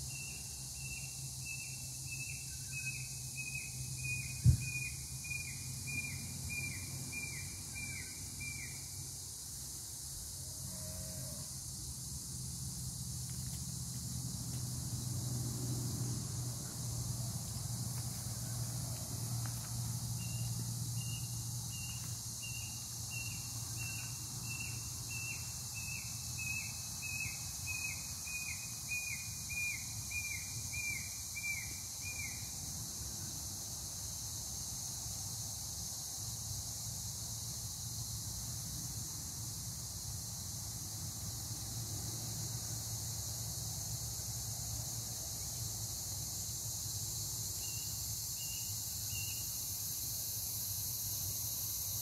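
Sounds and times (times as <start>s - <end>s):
insects hissing: 0.0s - 52.0s.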